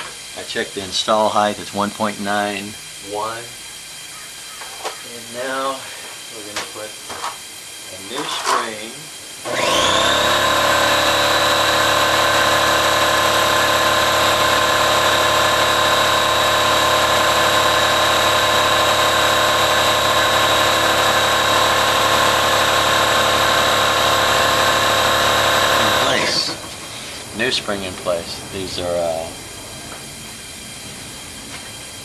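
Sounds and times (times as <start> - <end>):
electric machine whining: 0.0 - 32.0.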